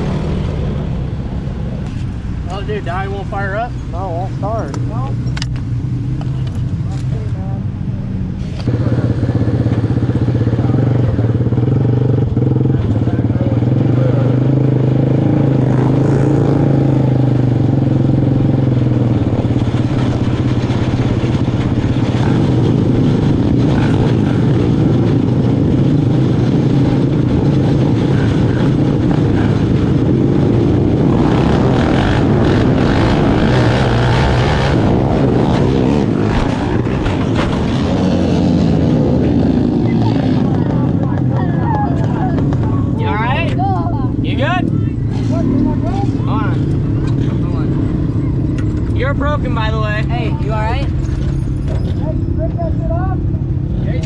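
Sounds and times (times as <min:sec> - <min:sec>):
kart engine running: 0:08.6 - 0:53.7.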